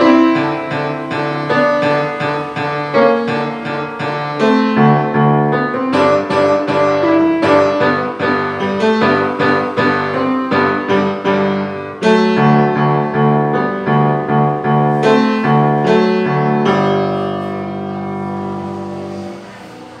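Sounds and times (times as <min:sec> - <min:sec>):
solo grand piano: 0:00.0 - 0:20.0.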